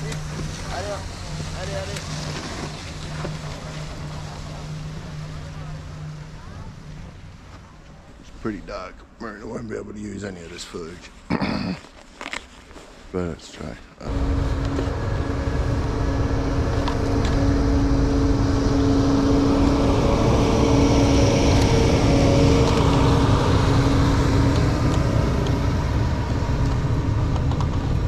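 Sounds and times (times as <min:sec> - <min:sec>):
snow groomer engine rumble: 0:00.0 - 0:08.7, 0:14.0 - 0:28.0.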